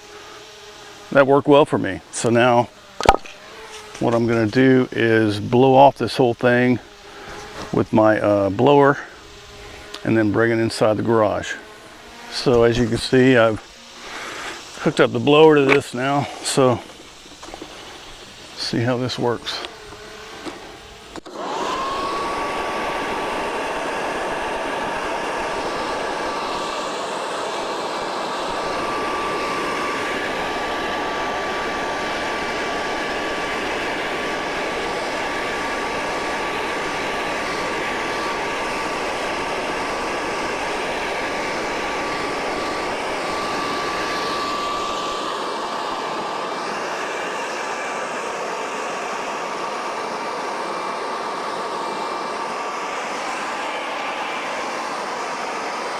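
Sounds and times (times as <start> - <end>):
blower motor whining: 0.0 - 55.9.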